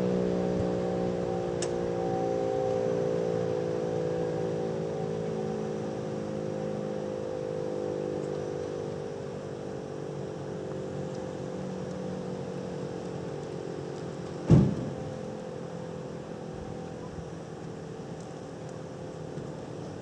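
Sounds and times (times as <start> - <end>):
outdoor warning siren steady tone: 0.0 - 19.3.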